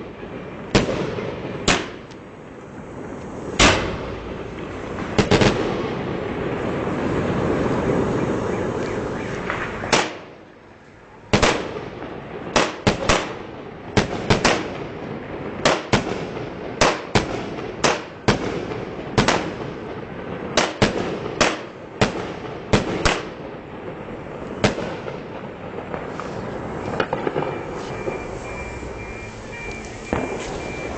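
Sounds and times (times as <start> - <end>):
fireworks sharp bangs: 0.0 - 30.9
rumble of distant fireworks: 0.0 - 30.9.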